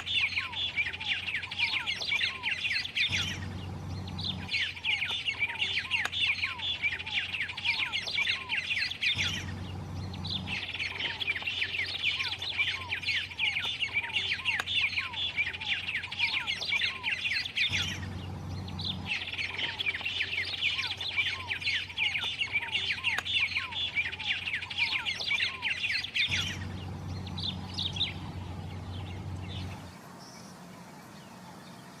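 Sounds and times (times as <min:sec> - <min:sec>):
bird singing rapid high chirps: 0:00.0 - 0:32.0.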